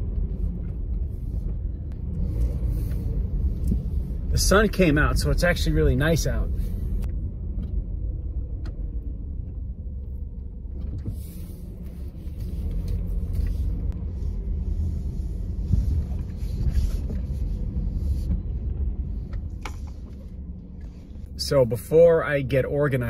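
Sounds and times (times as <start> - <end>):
car engine from inside cabin: 0.0 - 23.0
road rumble and tyre hiss: 0.0 - 23.0.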